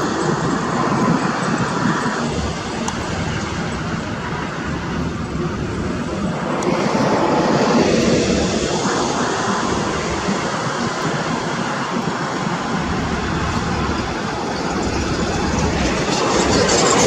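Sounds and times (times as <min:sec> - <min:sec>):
vehicle engine tyre and wind noise: 0:00.0 - 0:17.0.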